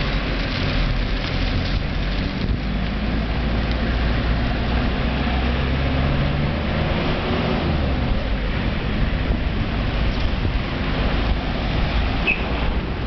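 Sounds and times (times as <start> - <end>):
car engine humming: 0.0 - 13.0
road and wind noise: 0.0 - 13.0.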